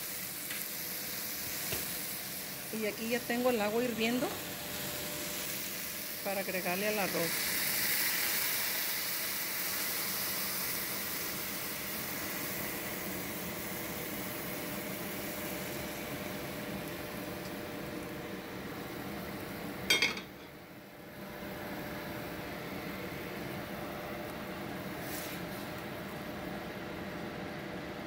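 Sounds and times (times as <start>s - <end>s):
food sizzling and bubbling: 0.0s - 28.0s.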